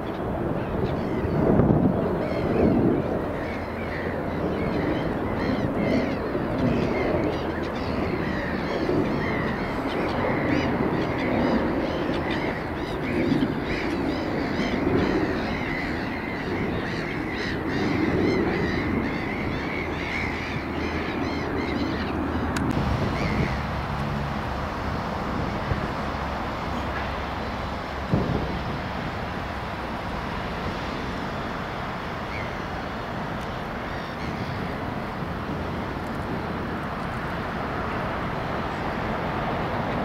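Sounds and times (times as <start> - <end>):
gulls crying: 0.0 - 40.0.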